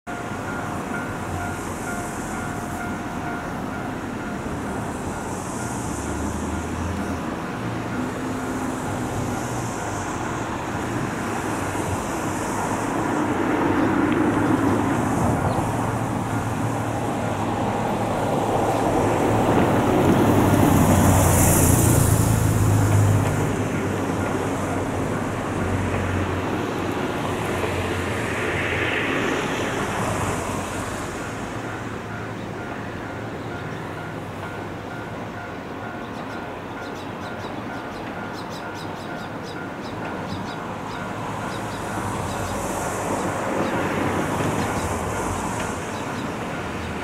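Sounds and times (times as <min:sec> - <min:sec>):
road traffic: 0:00.0 - 0:47.0
vehicles passing: 0:00.1 - 0:47.0.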